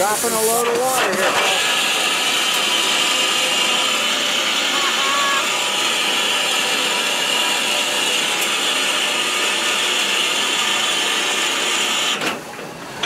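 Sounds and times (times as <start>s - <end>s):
steam locomotive venting steam: 0.0s - 13.0s.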